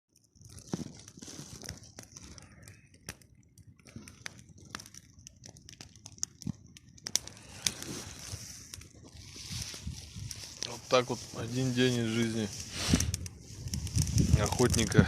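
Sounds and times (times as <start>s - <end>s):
campfire crackling: 0.1s - 15.0s.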